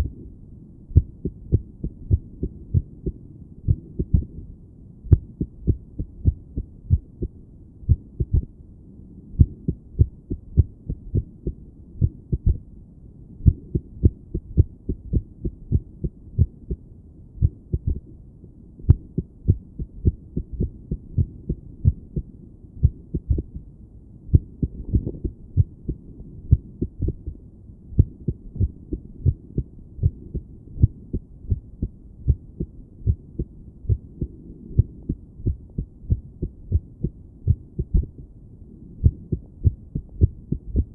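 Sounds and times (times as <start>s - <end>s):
irregular heartbeat thuds: 0.9s - 4.5s, 5.1s - 8.6s, 9.4s - 12.7s, 13.4s - 18.1s, 18.9s - 23.7s, 24.3s - 27.4s, 28.0s - 38.3s, 39.0s - 40.9s.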